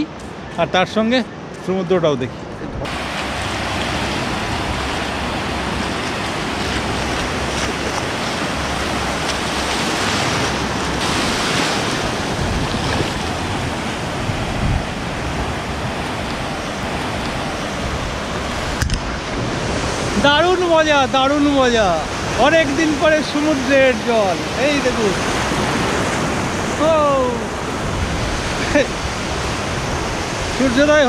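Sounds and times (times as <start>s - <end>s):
sea surf breaking on sand: 2.8s - 31.0s.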